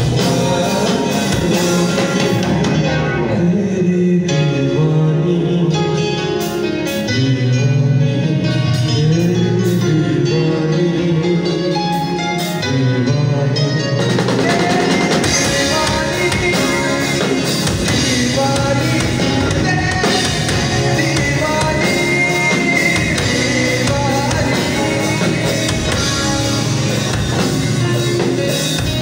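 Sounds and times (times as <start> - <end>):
live rock band playing: 0.0 - 29.0
man singing: 0.0 - 29.0.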